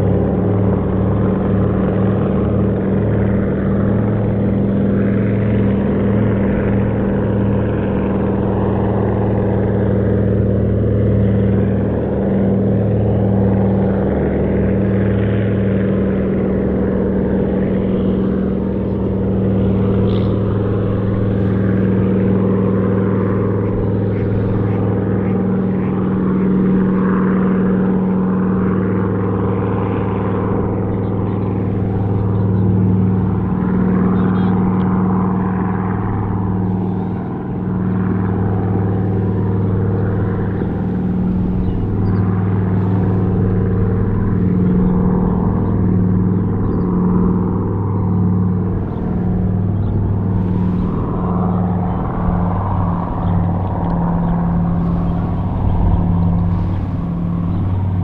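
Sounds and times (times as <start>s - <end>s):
radial aircraft engines droning: 0.0s - 58.0s.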